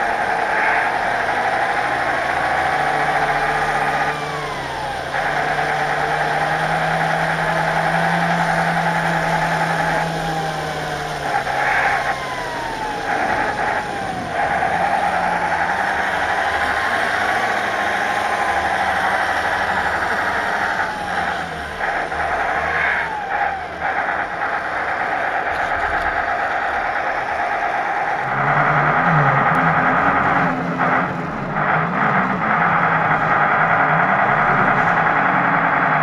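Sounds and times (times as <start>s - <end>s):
howling cooling fans: 0.0s - 36.0s
simulated diesel engine: 0.0s - 36.0s.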